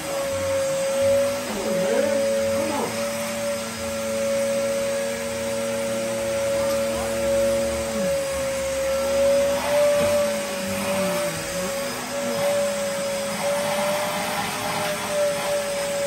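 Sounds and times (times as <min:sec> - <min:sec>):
vacuum cleaner whining hum: 0:00.0 - 0:16.0.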